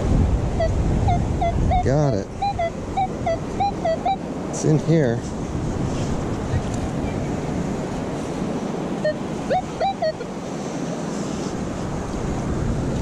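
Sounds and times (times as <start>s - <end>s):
ocean surf washing on beach: 0.0s - 13.0s
wind on microphone: 0.0s - 13.0s.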